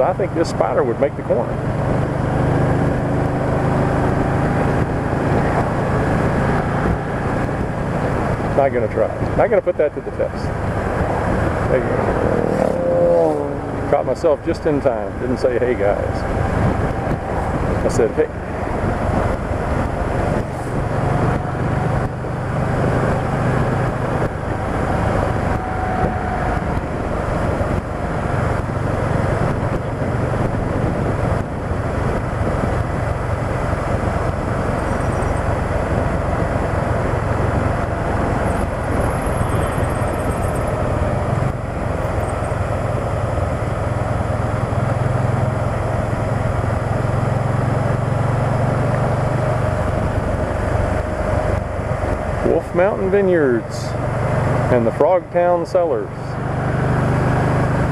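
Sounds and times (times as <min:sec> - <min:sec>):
motorcycle engine hum: 0:00.0 - 0:57.9
wind and road noise: 0:00.0 - 0:57.9.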